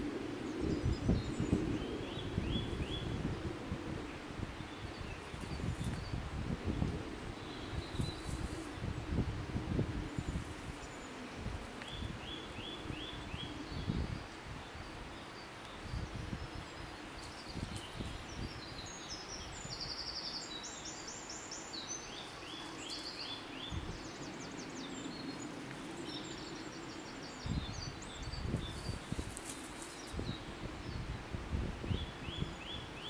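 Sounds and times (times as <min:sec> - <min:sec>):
songbirds singing: 0:00.0 - 0:33.0.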